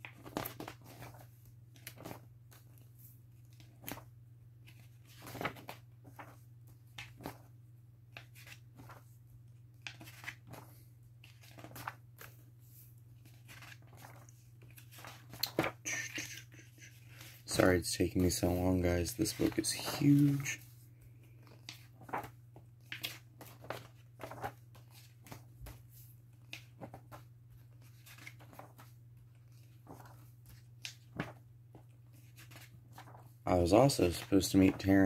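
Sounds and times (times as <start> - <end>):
book pages turning: 0.0 - 35.0.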